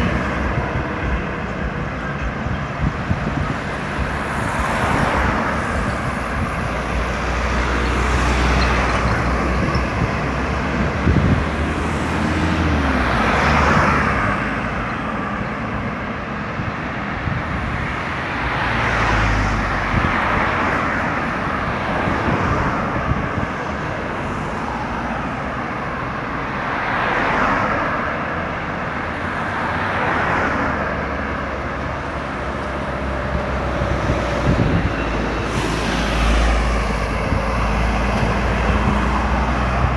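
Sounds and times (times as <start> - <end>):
vehicles passing on highway: 0.0 - 39.9.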